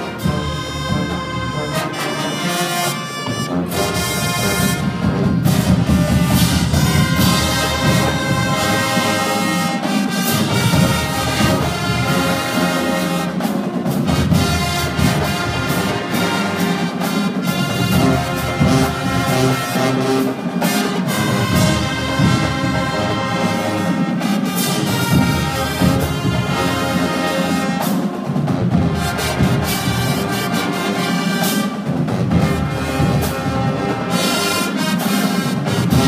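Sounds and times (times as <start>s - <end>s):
drum strokes: 0.0s - 36.0s
marching band playing a ballad: 0.0s - 36.0s.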